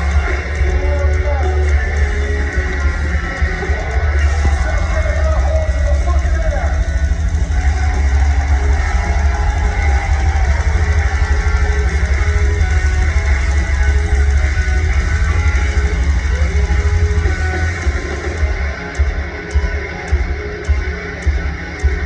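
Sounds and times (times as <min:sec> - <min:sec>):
heavy metal band playing live: 0:00.0 - 0:22.0.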